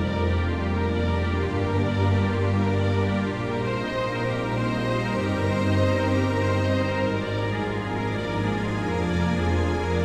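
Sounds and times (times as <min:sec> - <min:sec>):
slow gentle background music: 0:00.0 - 0:10.0.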